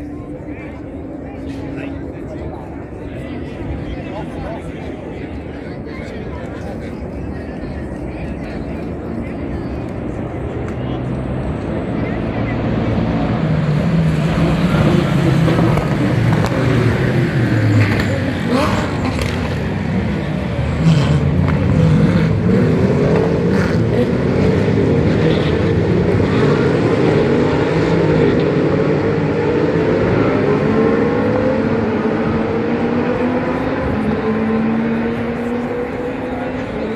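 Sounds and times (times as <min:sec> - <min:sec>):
race car engines: 0:00.0 - 0:36.9.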